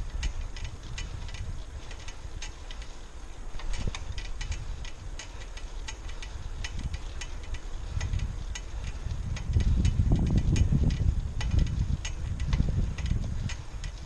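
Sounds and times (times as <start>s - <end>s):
wind buffeting microphone: 0.0s - 14.0s
faint clicks: 0.1s - 14.0s.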